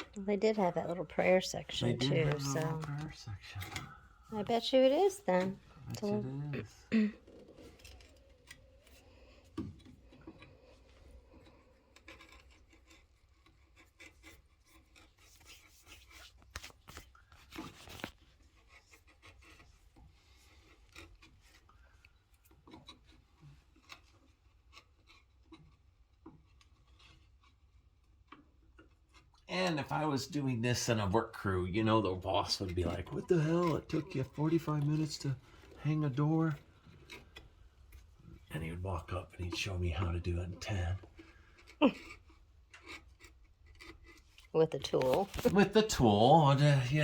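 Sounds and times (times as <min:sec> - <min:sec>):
chisel scraping wood: 0:07.4 - 0:29.3, 0:30.9 - 0:46.8.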